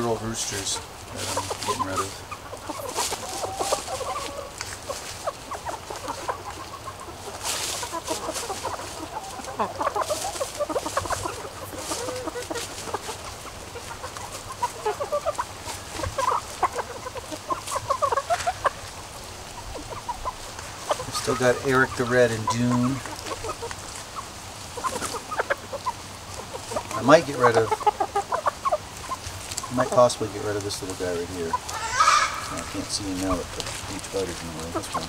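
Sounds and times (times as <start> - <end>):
chickens clucking softly: 0.0 - 35.0
rustling in dry leaves: 0.0 - 35.0.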